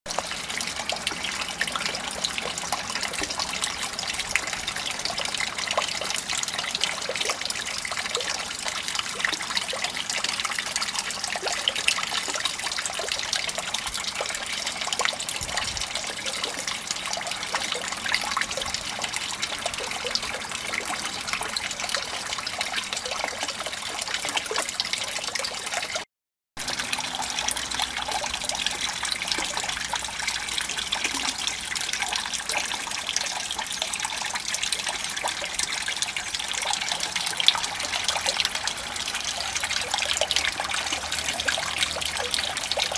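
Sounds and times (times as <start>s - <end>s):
water splashing into a pond: 0.1s - 26.0s, 26.6s - 42.9s.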